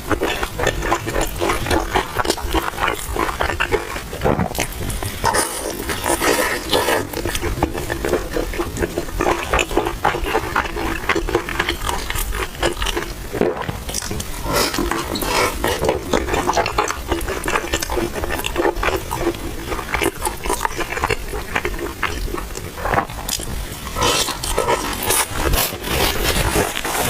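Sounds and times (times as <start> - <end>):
person chewing and smacking: 0.0 - 27.0.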